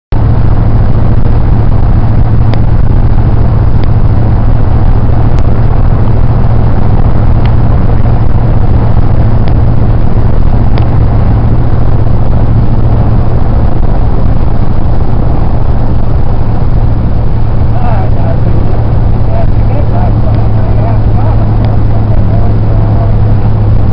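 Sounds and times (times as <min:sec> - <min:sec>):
car cabin road noise: 0:00.1 - 0:23.9.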